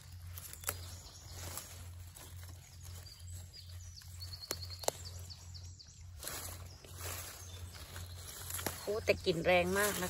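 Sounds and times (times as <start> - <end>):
bird trill: 0.0 - 10.0
faint birdsong: 0.0 - 10.0
low pulsing hum: 0.0 - 10.0.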